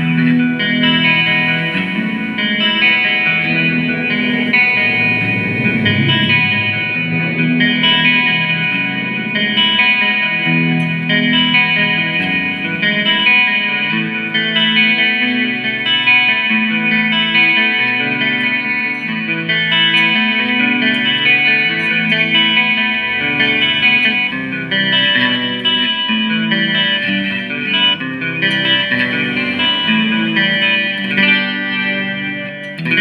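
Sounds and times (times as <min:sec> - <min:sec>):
guitar music through effects: 0:00.0 - 0:33.0.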